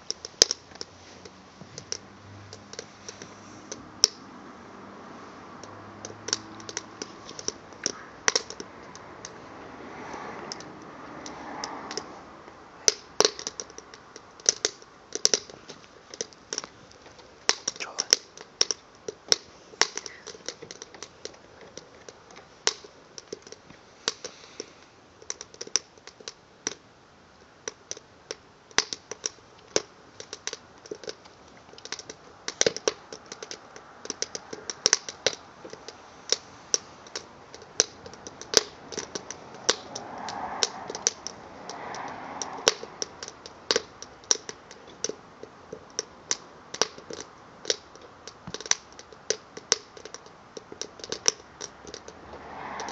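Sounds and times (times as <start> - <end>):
soft fire hiss: 0.0 - 52.8
burning log crackling and popping: 0.0 - 52.9.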